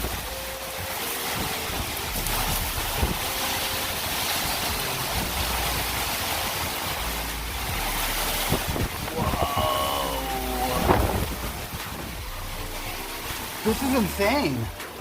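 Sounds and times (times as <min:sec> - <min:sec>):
wind buffeting microphone: 0:00.0 - 0:13.7
driving rain: 0:00.0 - 0:15.0
storm wind blowing: 0:01.3 - 0:13.5.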